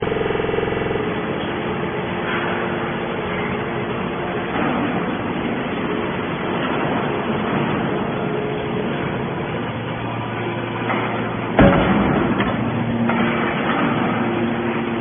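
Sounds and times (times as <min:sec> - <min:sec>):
machine hum: 0:00.0 - 0:15.0
mechanical rumble: 0:00.0 - 0:15.0.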